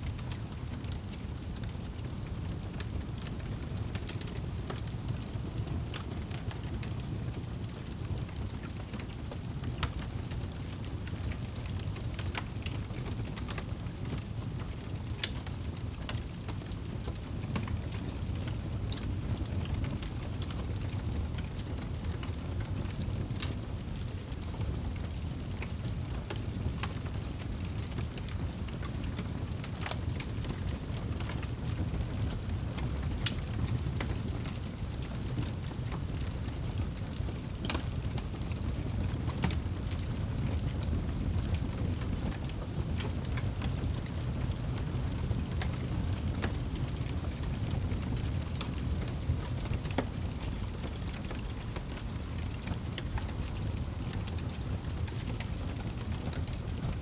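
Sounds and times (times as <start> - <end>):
low rumble of flames: 0.0 - 57.0
fire crackling and popping: 0.1 - 57.0.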